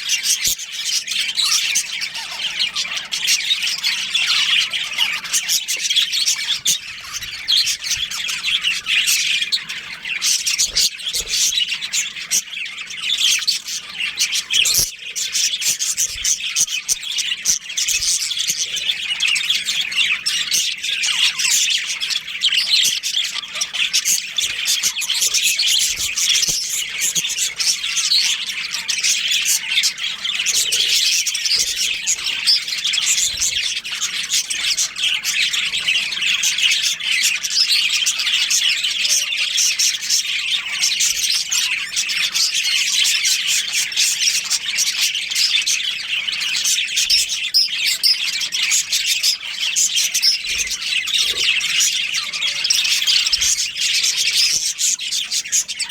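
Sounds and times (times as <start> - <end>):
budgerigars chirping and squawking: 0.0 - 55.9.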